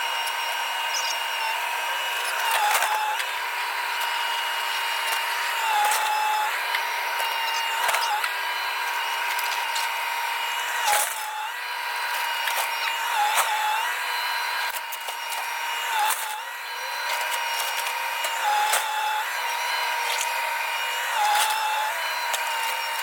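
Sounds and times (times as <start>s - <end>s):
power tool motor whining: 0.0s - 23.0s.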